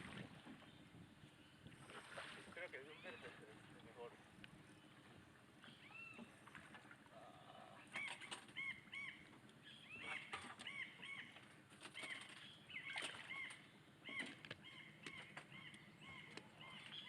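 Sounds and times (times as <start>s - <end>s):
birds calling: 2.5s - 17.0s.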